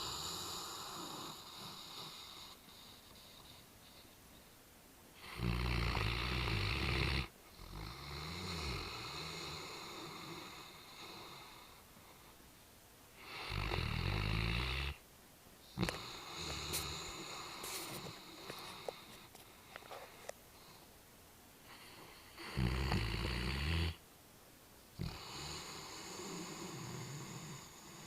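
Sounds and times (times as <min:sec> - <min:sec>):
dog snoring: 0:00.0 - 0:04.1, 0:05.2 - 0:12.3, 0:13.2 - 0:15.0, 0:15.6 - 0:20.8, 0:21.6 - 0:24.0, 0:25.0 - 0:28.0.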